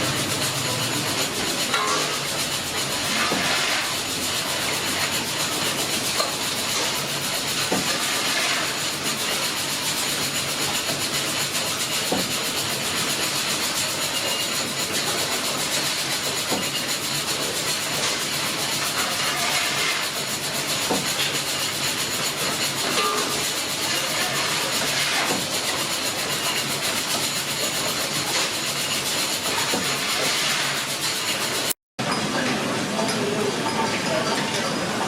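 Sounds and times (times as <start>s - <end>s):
steam engine hissing: 0.0s - 31.7s.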